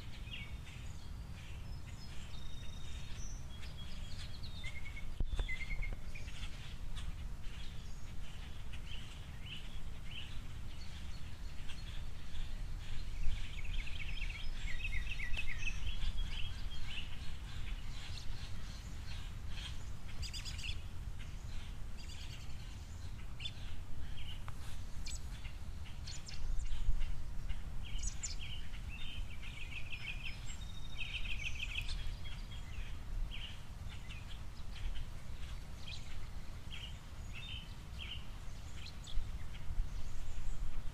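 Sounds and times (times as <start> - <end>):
songbirds chirping and twittering: 0.0 - 40.9.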